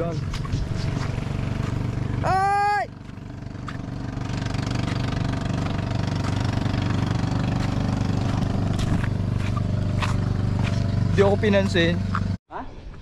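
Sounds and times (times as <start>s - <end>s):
boat engine droning: 0.0s - 12.4s.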